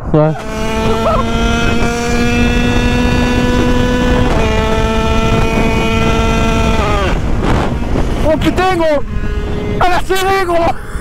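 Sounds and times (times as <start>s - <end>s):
two-stroke engine screaming: 0.2s - 11.0s
wind rushing: 0.4s - 11.0s.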